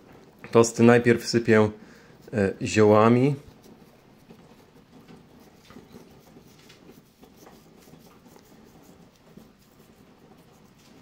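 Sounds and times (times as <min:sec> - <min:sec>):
dried herbs sprinkled onto toast: 0:00.2 - 0:11.0.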